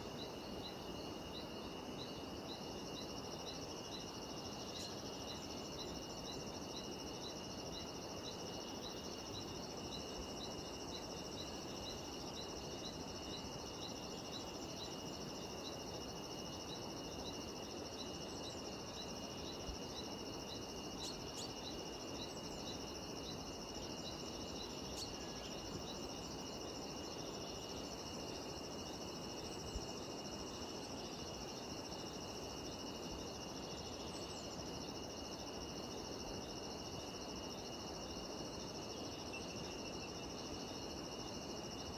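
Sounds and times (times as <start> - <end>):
cicadas and insects droning: 0.0 - 41.9.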